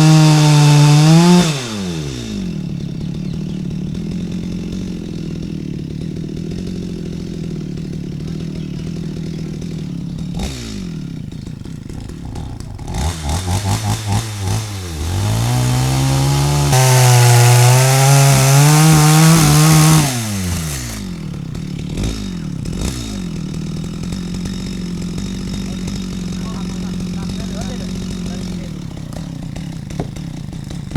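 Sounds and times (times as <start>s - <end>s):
chainsaw idling and revving: 0.0s - 30.9s.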